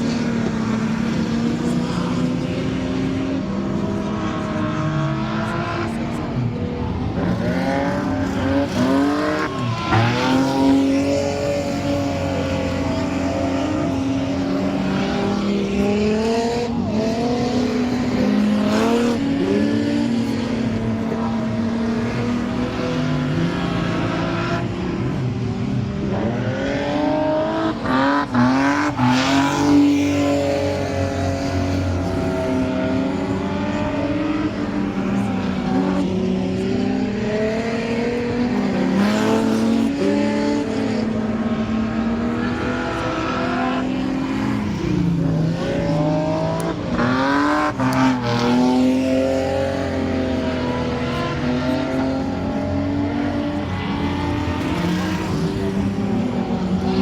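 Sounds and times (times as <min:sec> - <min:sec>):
engines accelerating hard: 0:00.0 - 0:57.0
stock car engines racing: 0:00.0 - 0:57.0.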